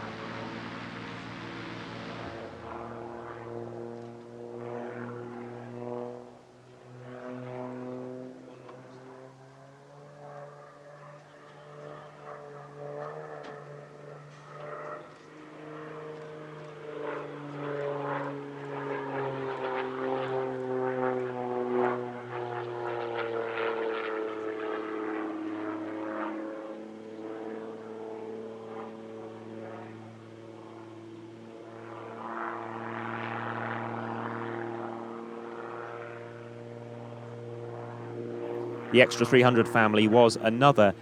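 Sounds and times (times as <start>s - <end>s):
plane engine and propeller: 0.0s - 41.0s.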